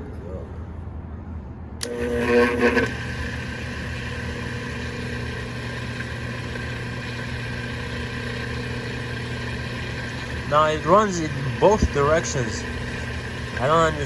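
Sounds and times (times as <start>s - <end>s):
electric motor humming: 1.8s - 14.0s.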